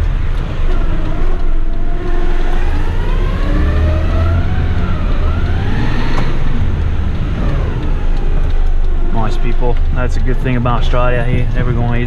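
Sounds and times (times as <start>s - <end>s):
truck diesel engine pulling away: 0.0s - 12.0s.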